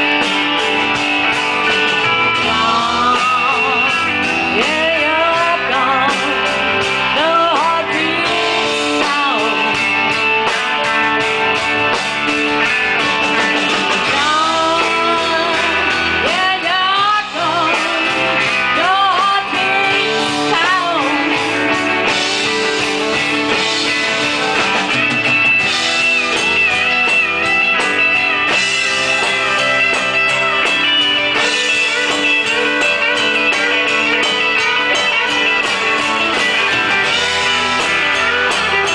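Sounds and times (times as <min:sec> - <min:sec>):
electric guitar lead bending notes: 0:00.0 - 0:38.9
live rock band playing: 0:00.0 - 0:38.9.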